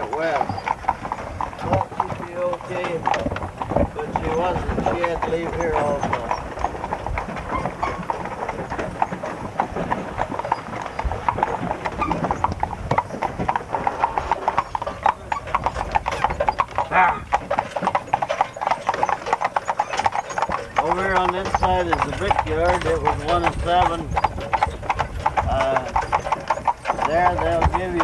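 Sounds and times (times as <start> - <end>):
horse hooves clip-clopping: 0.0 - 28.0.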